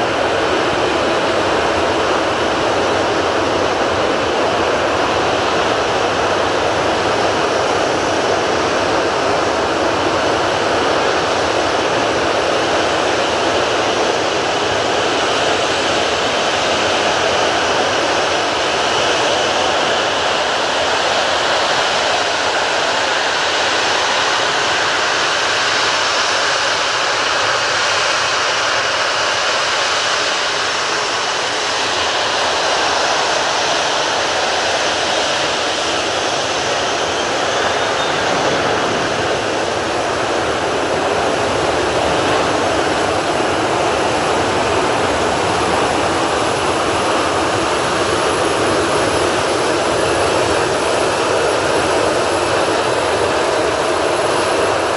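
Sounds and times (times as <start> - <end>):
jet engines humming: 0.0 - 54.9.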